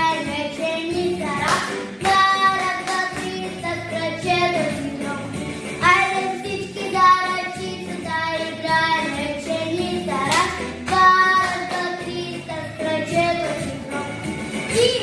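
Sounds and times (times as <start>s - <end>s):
backing music: 0.0s - 15.0s
girl singing: 0.0s - 15.0s.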